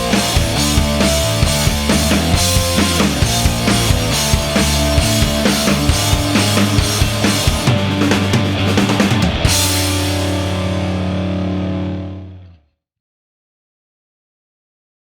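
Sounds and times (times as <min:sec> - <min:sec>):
rock music with drums: 0:00.0 - 0:12.5
electric guitar: 0:00.0 - 0:12.6.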